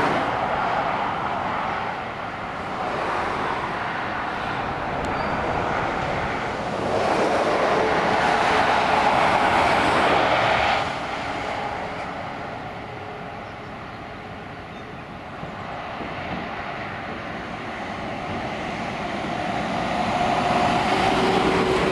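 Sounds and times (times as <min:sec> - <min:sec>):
motorway traffic passing: 0:00.0 - 0:21.9.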